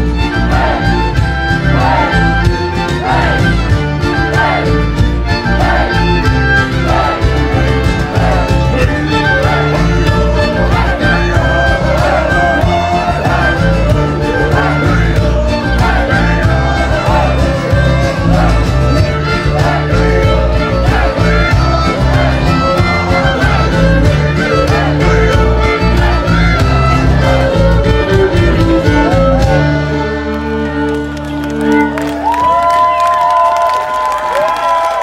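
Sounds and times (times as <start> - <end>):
accordion: 0.0 - 32.5
fiddles playing: 0.0 - 34.0
cajon beat: 0.0 - 34.8
guitar: 0.0 - 35.0.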